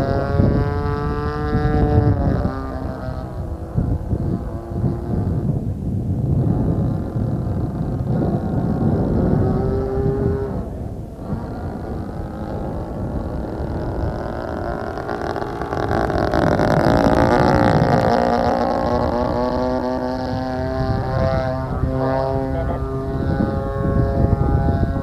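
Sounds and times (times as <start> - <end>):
model airplane engine flying past: 0.0 - 25.0.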